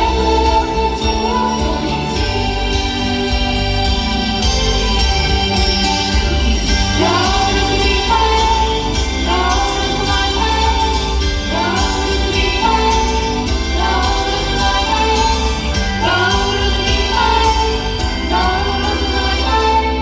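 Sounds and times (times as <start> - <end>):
backing music through sound system: 0.0 - 20.0
women singing pop song live: 0.0 - 20.0.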